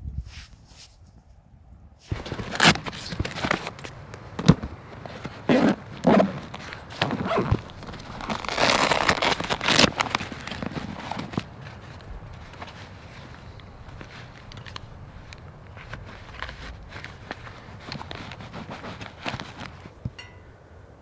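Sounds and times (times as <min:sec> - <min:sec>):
fabric rustling: 0:02.0 - 0:20.0
pouch rasping open: 0:02.1 - 0:20.0.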